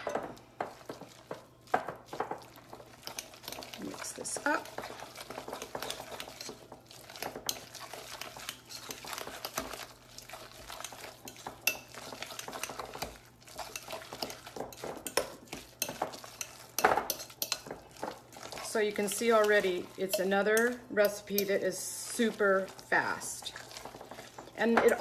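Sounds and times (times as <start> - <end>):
spoon stirring thick filling: 0.0 - 25.0.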